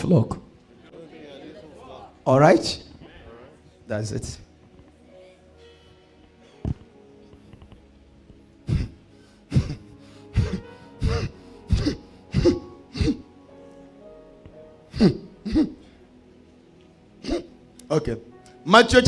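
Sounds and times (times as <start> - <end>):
soft keyboard chords: 0.0 - 19.0.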